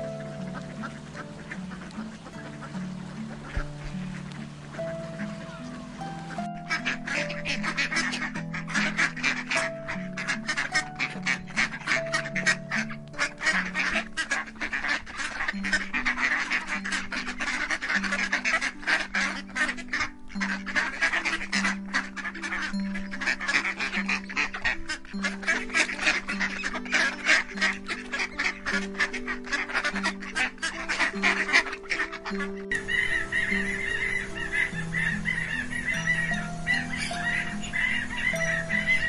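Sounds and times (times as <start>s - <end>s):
ducks quacking: 0.0s - 39.0s
slow low background music: 0.0s - 39.0s.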